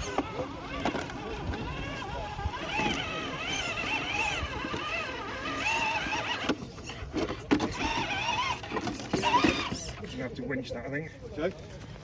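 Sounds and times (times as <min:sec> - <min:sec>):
electric motor whining: 0:00.0 - 0:10.2.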